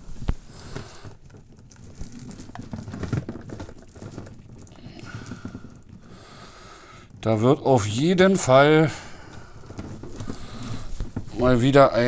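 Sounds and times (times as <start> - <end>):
cables rustling and knocking: 0.0 - 12.0.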